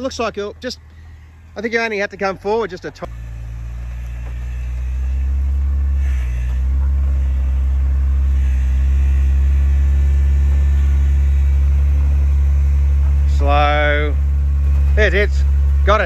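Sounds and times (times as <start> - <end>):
engine rumbling at low revs: 0.0 - 16.0.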